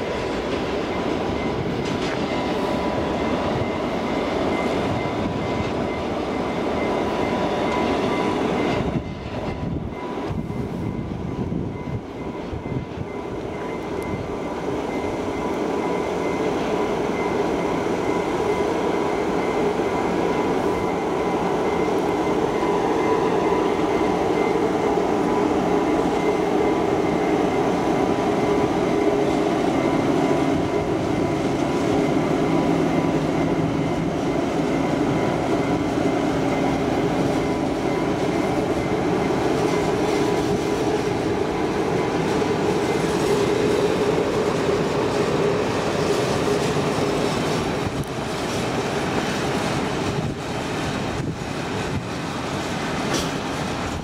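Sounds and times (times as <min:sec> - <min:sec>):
freight train rumbling on rails: 0:00.0 - 0:54.0.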